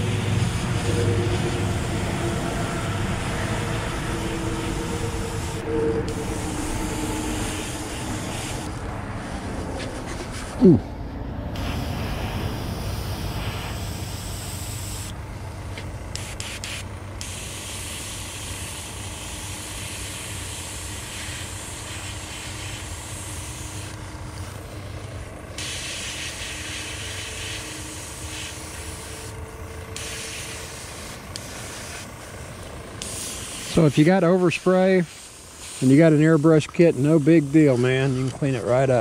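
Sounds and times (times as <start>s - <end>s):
airbrush spraying hiss: 0.0s - 8.9s, 11.5s - 15.1s, 15.7s - 38.4s
constant low rumble: 0.0s - 39.0s.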